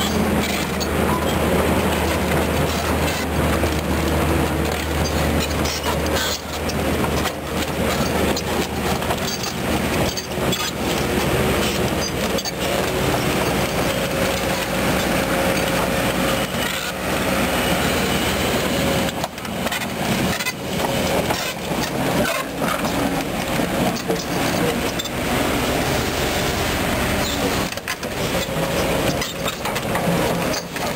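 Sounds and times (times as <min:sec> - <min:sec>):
crawler track plates clanking: 0:00.0 - 0:30.9
diesel engine running under load: 0:00.0 - 0:30.9.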